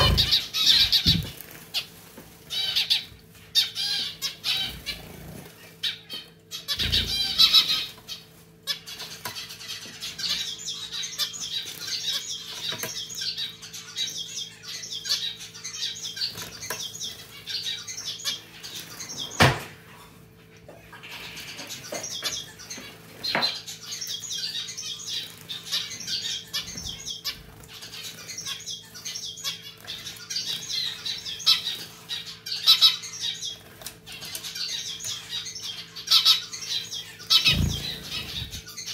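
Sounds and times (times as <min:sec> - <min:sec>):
finches chirping: 0:00.0 - 0:01.9, 0:02.5 - 0:19.6, 0:20.4 - 0:38.9.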